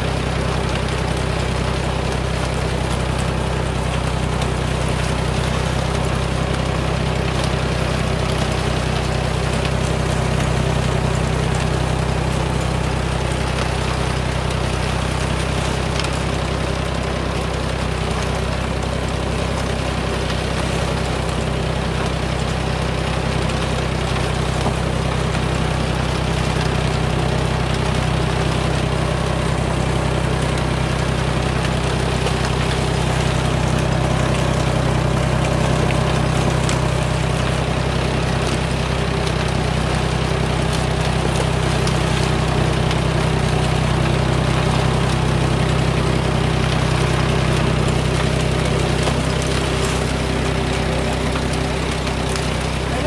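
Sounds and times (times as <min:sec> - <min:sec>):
engine droning: 0:00.0 - 0:53.0.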